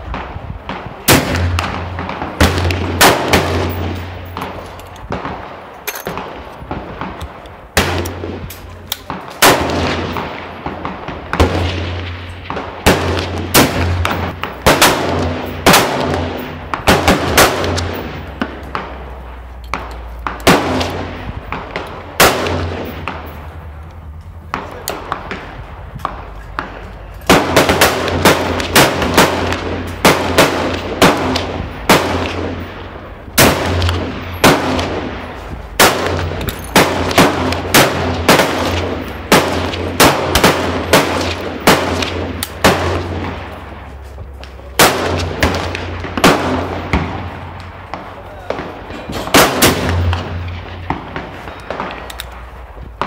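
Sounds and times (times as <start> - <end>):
gunshots with long echo: 0.0 - 53.0.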